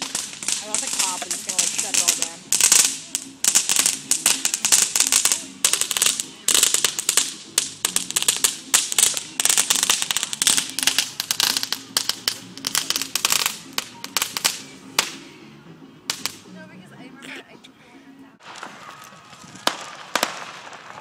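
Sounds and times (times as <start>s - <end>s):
firecrackers popping: 0.0s - 16.6s, 18.4s - 21.0s.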